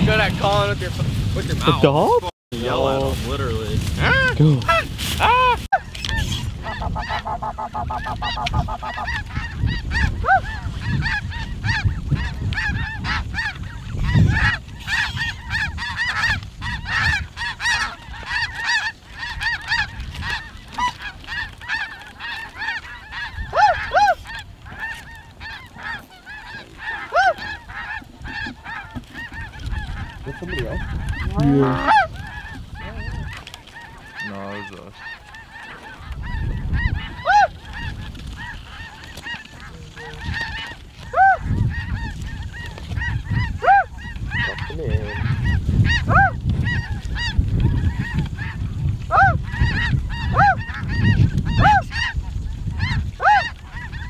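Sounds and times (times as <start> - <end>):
geese honking: 2.7 - 54.0.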